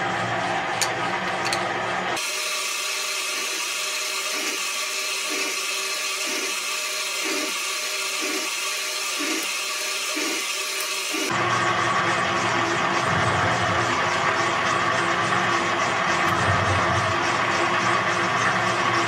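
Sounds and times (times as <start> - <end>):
low motor hum: 0.0 - 2.4, 3.0 - 19.0.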